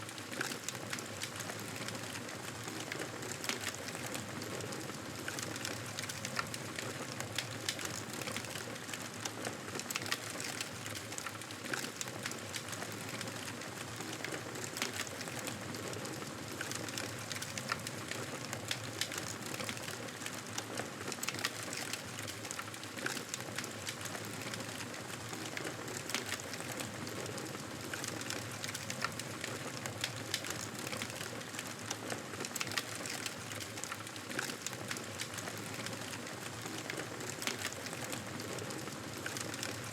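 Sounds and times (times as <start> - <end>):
campfire wood crackling: 5.2 - 9.2, 9.9 - 39.9.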